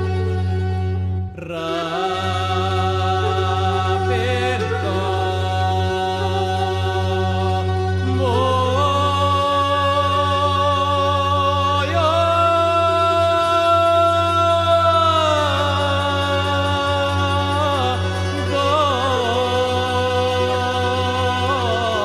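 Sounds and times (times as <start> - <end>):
low drone: 0.0 - 22.0.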